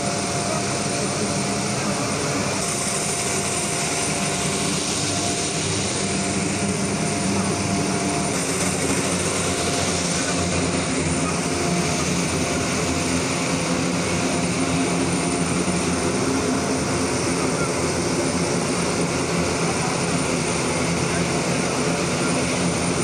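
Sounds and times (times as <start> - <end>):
cargo plane engines running: 0.0 - 23.0.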